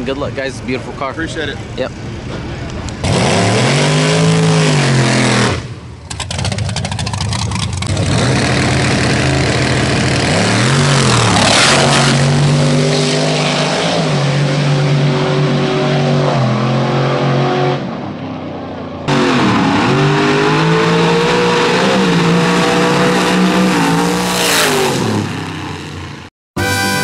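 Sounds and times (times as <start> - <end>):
loud car engine revving: 1.9 - 18.2, 19.0 - 27.0.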